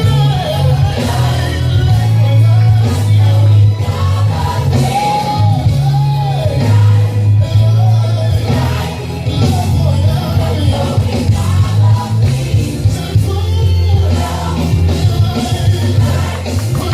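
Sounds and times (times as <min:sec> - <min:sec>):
band music with heavy bass: 0:00.0 - 0:16.9
gospel group singing: 0:00.0 - 0:16.9.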